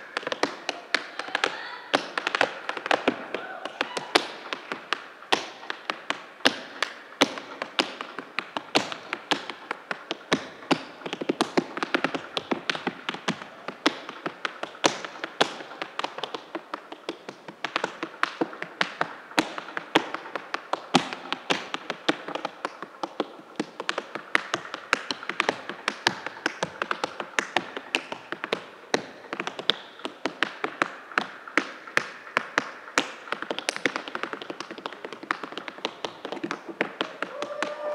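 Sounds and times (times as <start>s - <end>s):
tap shoes striking stage floor: 0.0s - 37.9s.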